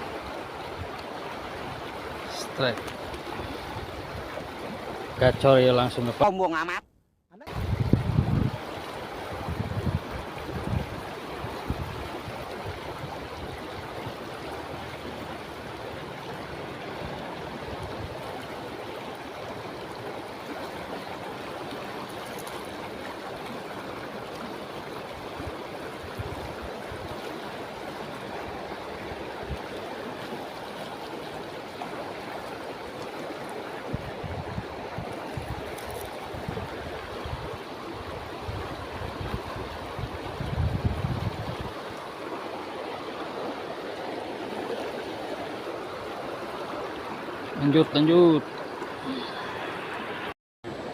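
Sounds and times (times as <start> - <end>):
flowing water rushing: 0.0 - 6.8, 7.4 - 50.9.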